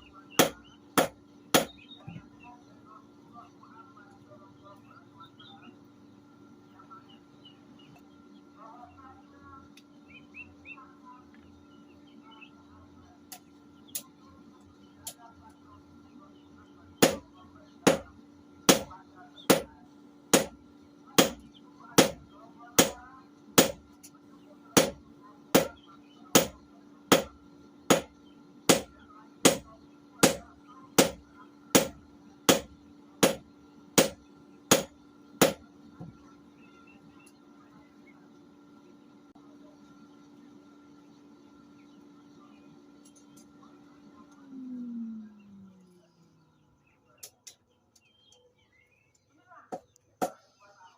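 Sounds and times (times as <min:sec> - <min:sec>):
small birds chirping: 0:00.0 - 0:50.9
steady low hum: 0:00.0 - 0:50.9.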